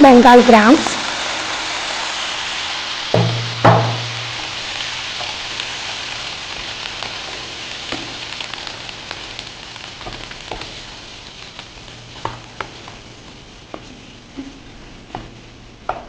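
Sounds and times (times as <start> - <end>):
chickpeas sizzling in oil: 0.0 - 16.0.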